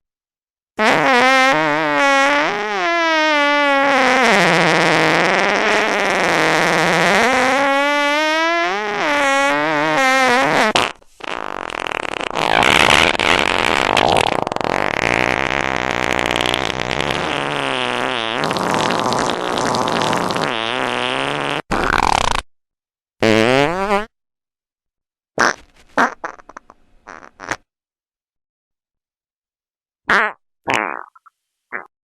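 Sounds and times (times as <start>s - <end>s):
fart sound effects: 0.8s - 22.5s, 23.2s - 24.2s, 25.4s - 27.7s, 30.1s - 31.9s.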